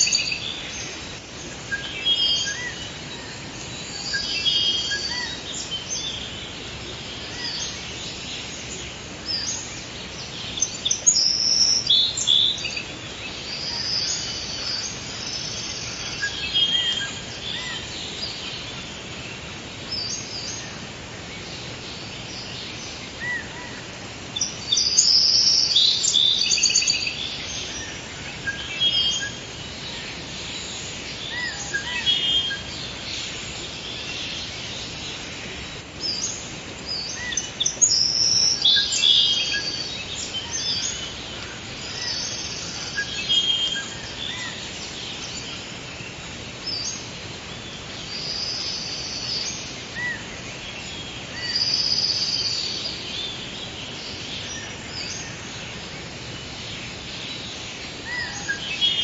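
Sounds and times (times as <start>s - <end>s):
background hiss: 0.0s - 59.0s
forest birds singing: 0.0s - 59.0s.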